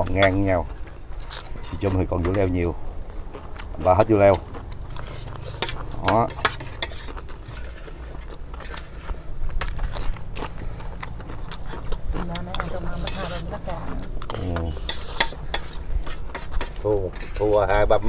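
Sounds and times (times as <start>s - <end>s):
metal spoons scraping steel platters: 0.0s - 2.7s, 3.8s - 10.8s, 11.4s - 18.0s.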